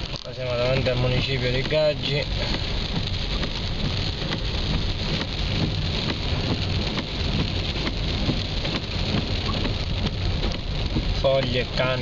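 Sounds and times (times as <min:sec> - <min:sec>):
car engine running: 0:00.0 - 0:12.0
rain on car roof: 0:00.0 - 0:12.0
tyres on wet road: 0:00.0 - 0:12.0.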